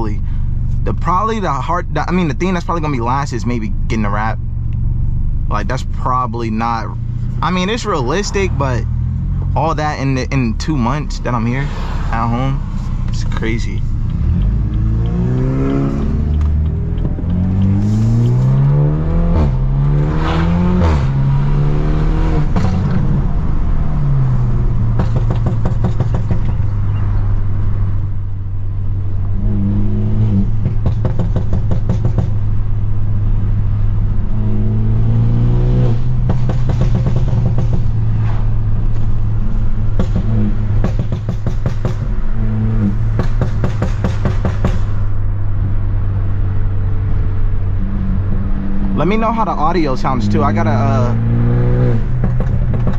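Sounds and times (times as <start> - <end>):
car engine accelerating through gears: 0.2 - 52.9.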